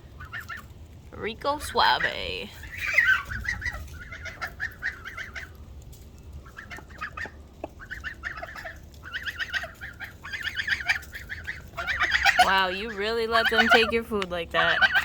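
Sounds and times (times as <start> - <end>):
young geese and chickens calling: 0.0 - 15.0.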